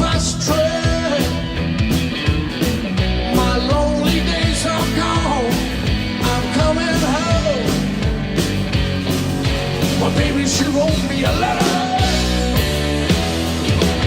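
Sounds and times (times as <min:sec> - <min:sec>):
bass guitar: 0:00.0 - 0:14.0
drums: 0:00.0 - 0:14.0.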